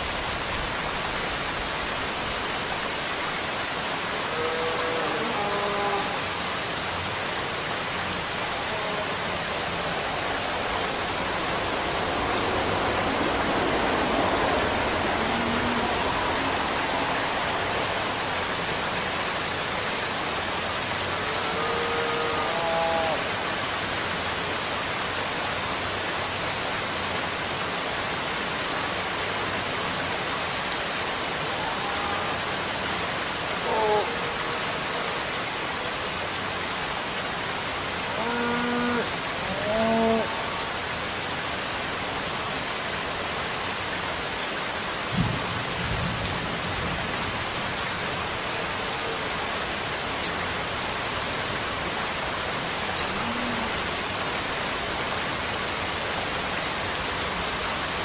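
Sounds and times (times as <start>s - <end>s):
raindrops ticking on a surface: 0.0s - 58.0s
steady rainfall: 0.0s - 58.0s.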